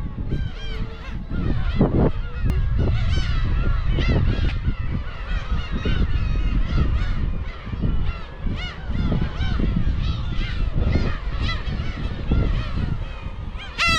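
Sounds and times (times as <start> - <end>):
gulls calling: 0.0 - 13.9
low rumbling noise: 0.0 - 13.9.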